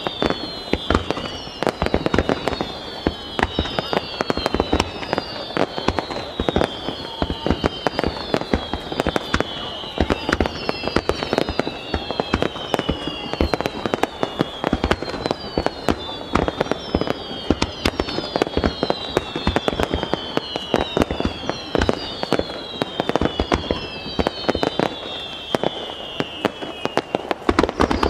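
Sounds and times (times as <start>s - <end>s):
fireworks bangs echoing: 0.0s - 28.0s
whistle falling in pitch: 0.0s - 28.0s.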